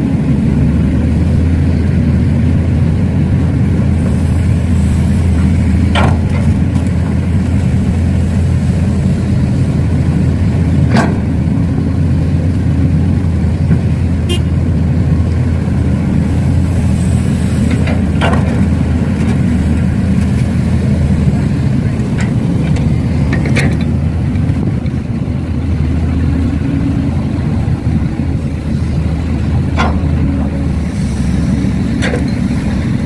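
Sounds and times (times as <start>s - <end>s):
heavy equipment engine rumble: 0.0s - 33.0s.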